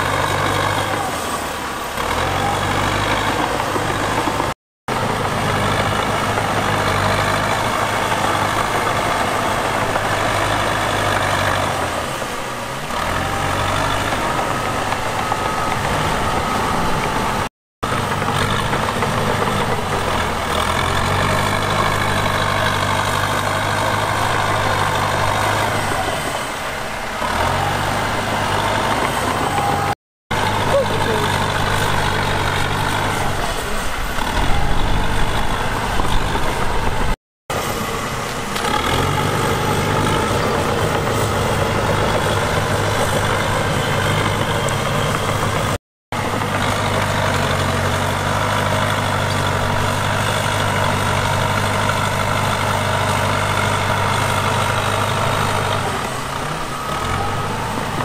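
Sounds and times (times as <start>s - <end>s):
heavy machinery diesel engines running: 0.0s - 58.0s.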